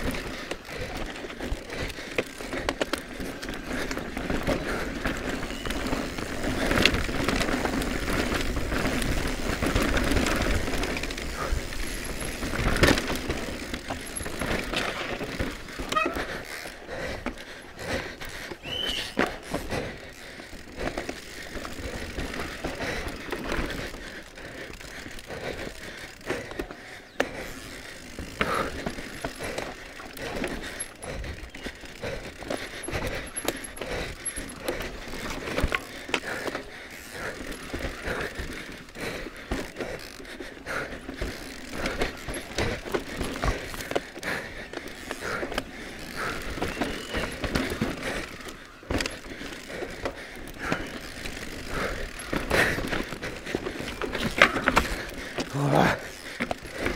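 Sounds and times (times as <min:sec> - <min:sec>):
bike chain and frame rattling: 0:00.0 - 0:56.9.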